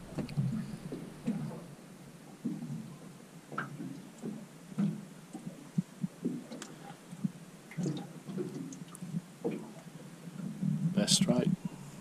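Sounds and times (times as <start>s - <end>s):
faint steady hiss: 0.0s - 12.0s
waves lapping against boat hull: 0.0s - 12.0s.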